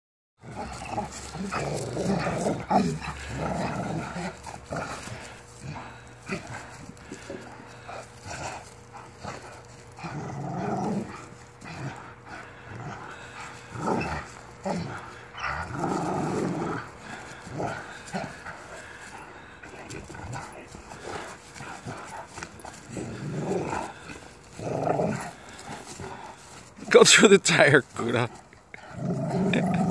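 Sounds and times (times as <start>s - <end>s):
puppies play-growling: 0.4s - 29.9s.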